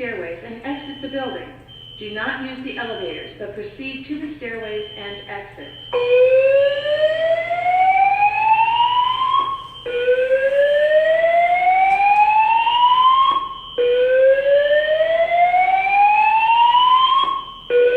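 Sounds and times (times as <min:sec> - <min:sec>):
fire alarm whoop tone: 0:00.7 - 0:03.4, 0:04.6 - 0:17.9.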